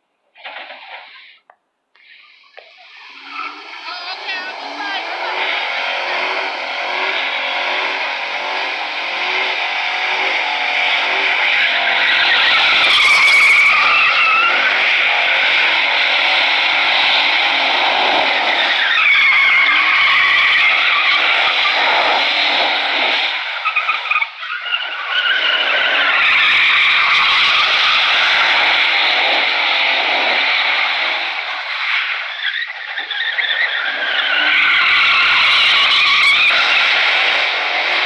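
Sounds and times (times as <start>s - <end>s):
tires squealing on asphalt: 0.4s - 1.4s, 2.0s - 38.0s.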